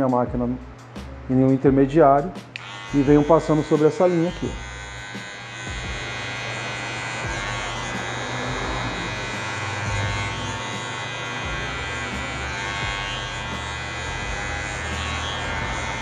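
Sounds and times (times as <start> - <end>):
hair clipper buzzing: 2.4 - 16.0.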